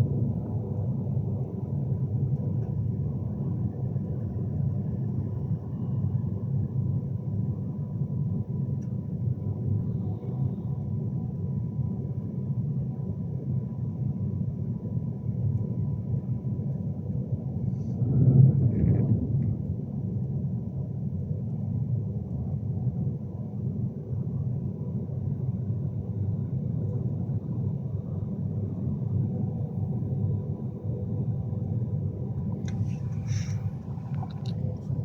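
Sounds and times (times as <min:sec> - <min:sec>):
faint steady hum: 0:00.0 - 0:35.0
train interior low rumble: 0:00.0 - 0:35.0.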